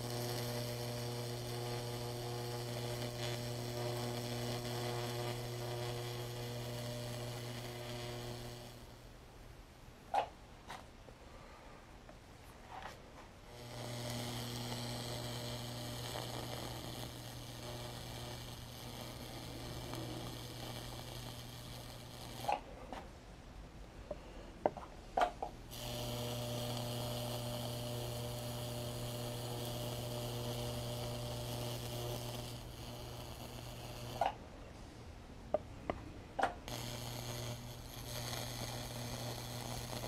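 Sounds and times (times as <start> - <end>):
electric hum with hiss: 0.0 - 40.0.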